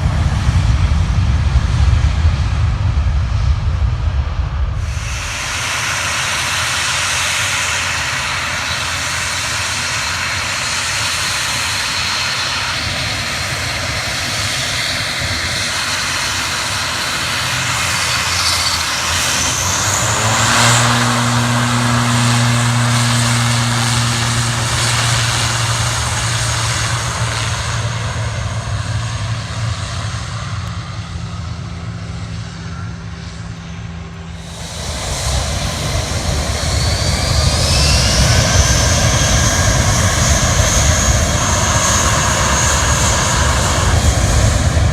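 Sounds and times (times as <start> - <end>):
aircraft engines roaring: 0.0 - 44.9.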